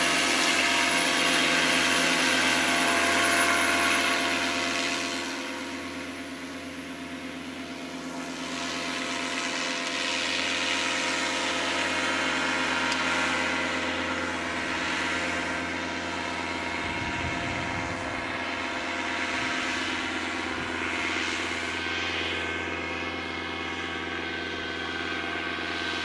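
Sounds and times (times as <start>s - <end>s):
paramotor engine and propeller droning: 0.0s - 26.0s.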